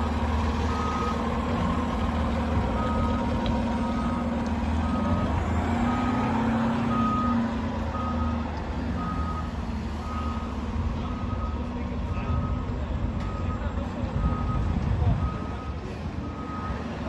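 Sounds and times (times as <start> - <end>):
fire engine running: 0.0 - 17.0.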